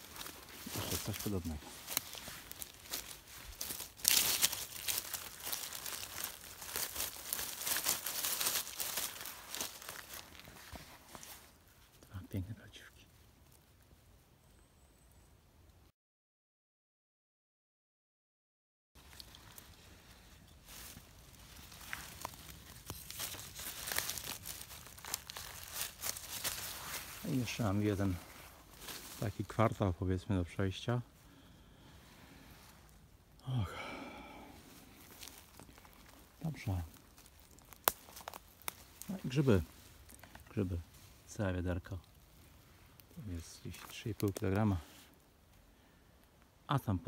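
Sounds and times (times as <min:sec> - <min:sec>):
dry leaves and twigs crackling: 0:00.0 - 0:15.3, 0:19.0 - 0:47.0.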